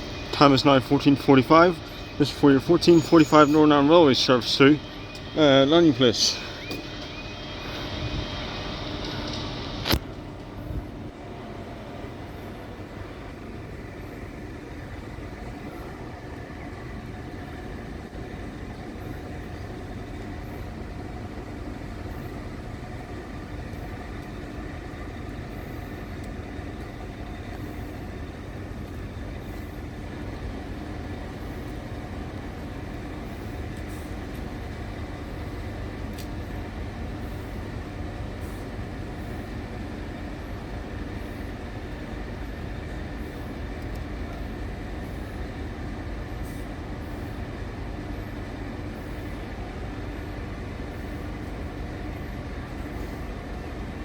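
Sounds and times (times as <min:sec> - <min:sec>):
diesel train engine hum: 0:00.0 - 0:54.0.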